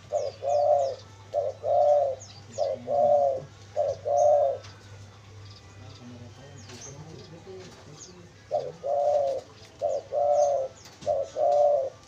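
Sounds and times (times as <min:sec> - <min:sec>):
dove cooing: 0:00.0 - 0:04.9, 0:06.5 - 0:12.0.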